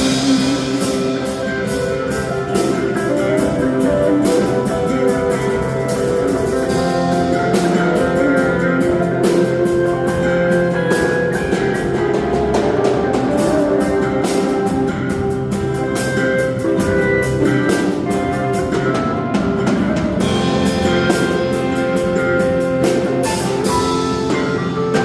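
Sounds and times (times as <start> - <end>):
band playing instrumental: 0.0 - 25.0
drum kit with cymbal strikes: 0.0 - 25.0.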